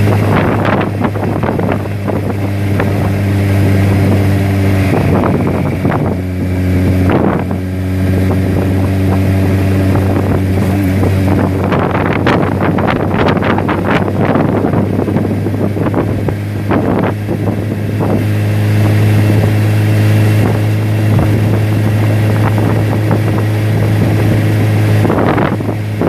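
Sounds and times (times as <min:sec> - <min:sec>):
low machine hum: 0:00.0 - 0:26.0
wind gusting across microphone: 0:00.0 - 0:26.0.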